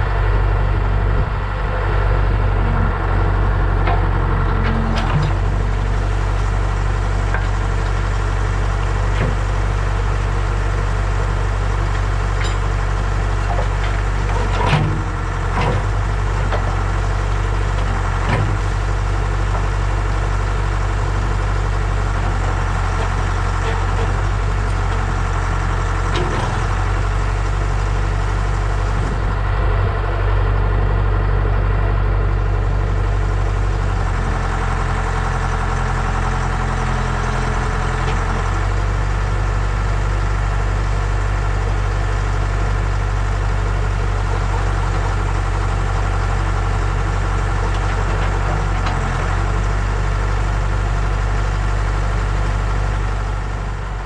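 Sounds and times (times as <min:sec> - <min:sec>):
backhoe engine idling: 0:00.0 - 0:54.0.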